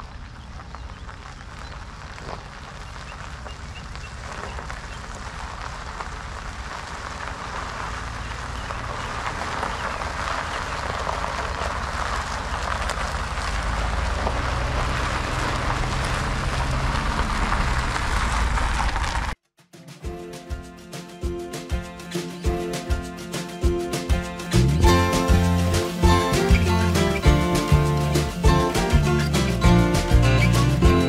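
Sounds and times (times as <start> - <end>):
low engine rumble: 0.0 - 19.4, 24.5 - 31.0
tyres crunching on gravel: 0.0 - 19.4, 21.7 - 31.0.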